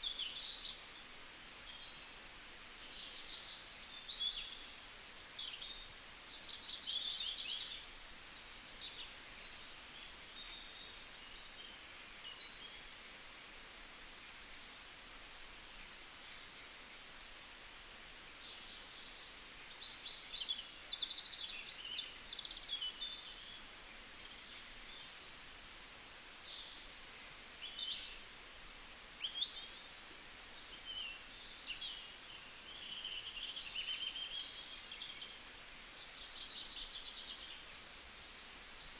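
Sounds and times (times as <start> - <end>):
faint steady hiss: 0.0 - 38.9
small birds chirping: 0.0 - 38.9.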